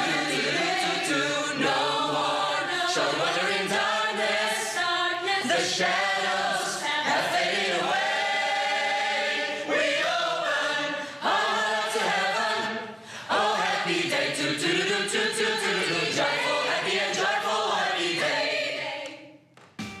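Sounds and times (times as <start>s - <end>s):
choir singing: 0.0s - 19.4s.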